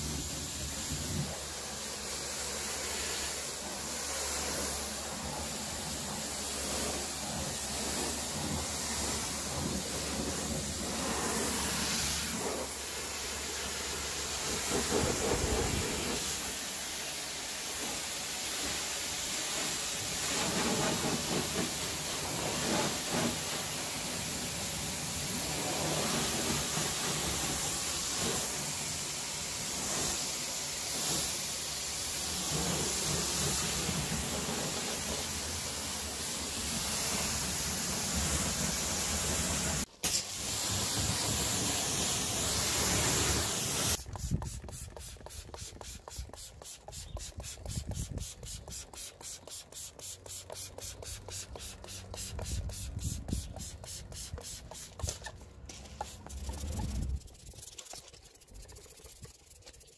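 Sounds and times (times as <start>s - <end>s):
pressure washer spraying: 0.0s - 59.9s
spray bottle spritzes: 0.0s - 59.9s.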